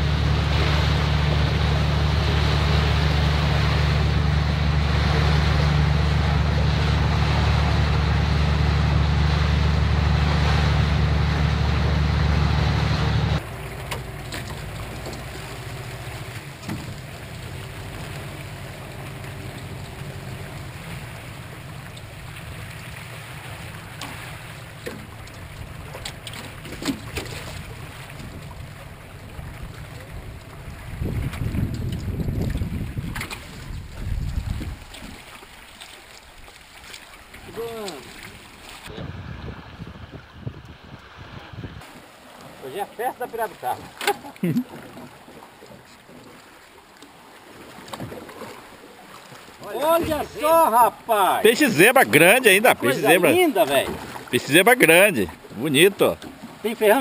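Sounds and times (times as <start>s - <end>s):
outboard motor running: 0.0s - 57.0s
water rushing past hull: 0.0s - 57.0s
wind: 0.0s - 57.0s.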